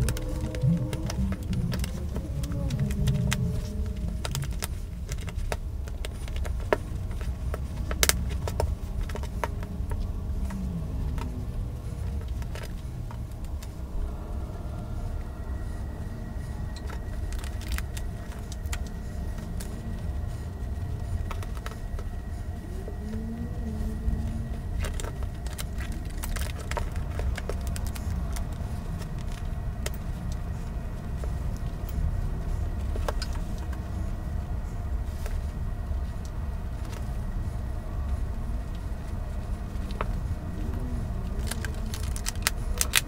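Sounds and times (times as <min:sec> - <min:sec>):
fabric rustling: 0:00.0 - 0:43.0
faint high hum: 0:00.0 - 0:43.0
low rumble: 0:00.0 - 0:43.0.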